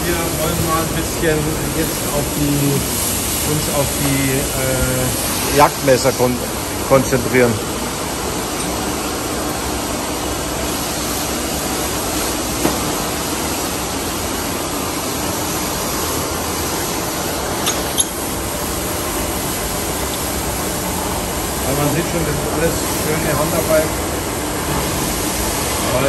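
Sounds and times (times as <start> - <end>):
workshop machinery running: 0.0 - 26.0.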